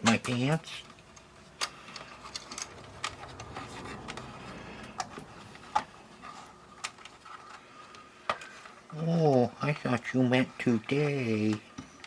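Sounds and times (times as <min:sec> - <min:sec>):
small tools clicking and tapping: 0:00.0 - 0:10.2.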